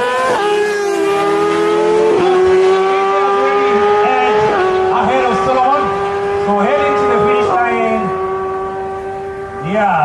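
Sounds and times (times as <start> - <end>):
motorcycle engines accelerating: 0.0 - 10.0.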